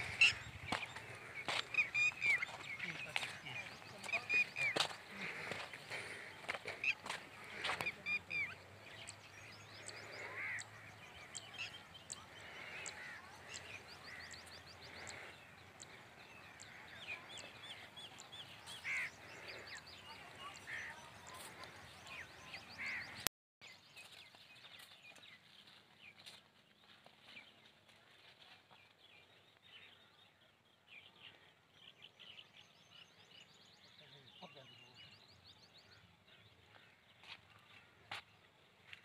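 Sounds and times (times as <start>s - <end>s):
birds chirping: 0.0s - 28.0s, 28.7s - 39.0s.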